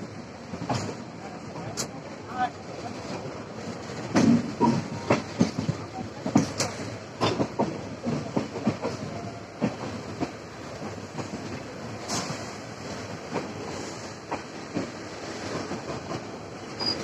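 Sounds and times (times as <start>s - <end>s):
train wheels clattering over rail joints: 0.5s - 2.0s, 3.0s - 17.0s.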